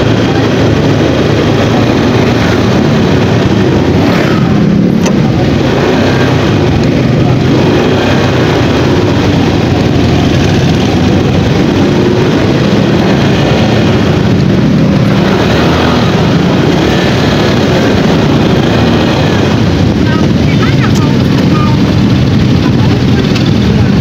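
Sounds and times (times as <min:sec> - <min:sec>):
motorcycle engine and road noise: 0:00.0 - 0:24.0.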